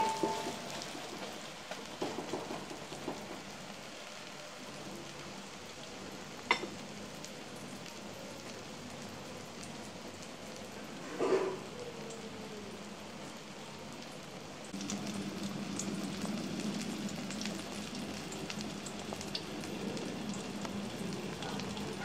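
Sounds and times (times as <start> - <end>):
omelette frying in oil: 0.0 - 22.0.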